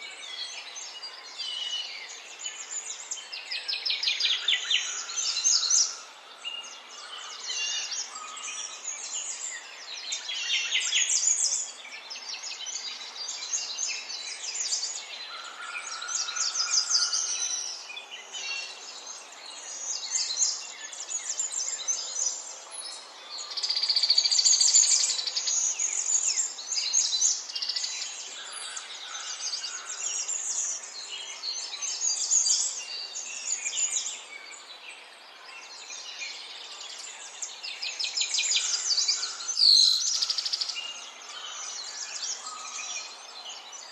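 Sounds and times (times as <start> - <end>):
birds singing and chirping: 0.0 - 43.9.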